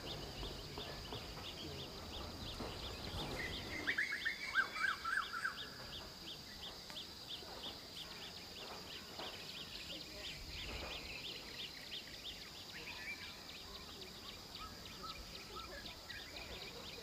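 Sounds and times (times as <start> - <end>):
high bird chirp: 0.0 - 17.0.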